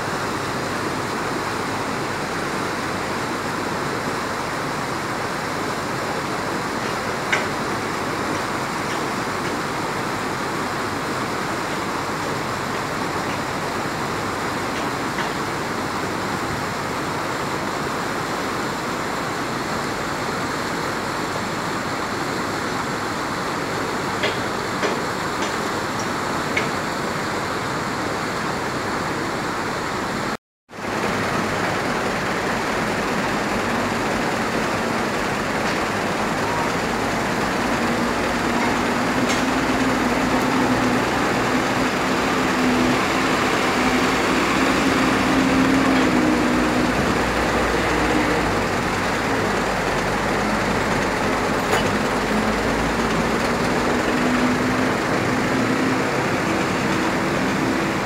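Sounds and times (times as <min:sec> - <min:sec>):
river rapids rushing: 0:00.0 - 0:58.0
excavator diesel engine running: 0:00.1 - 0:58.0.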